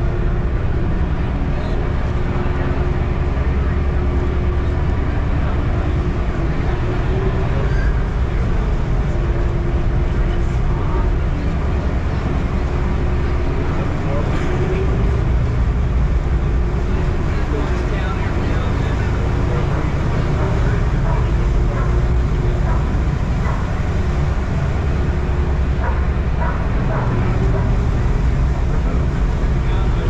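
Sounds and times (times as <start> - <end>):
ferry engines droning: 0.0 - 30.0.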